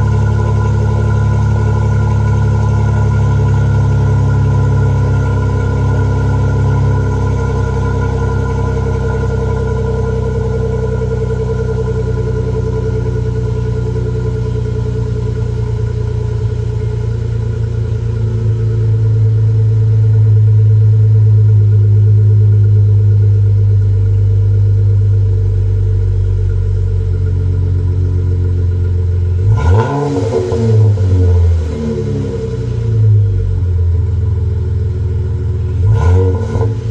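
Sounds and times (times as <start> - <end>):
car engine revving: 0.0 - 23.4, 25.5 - 36.9
car engine idling: 0.0 - 36.9.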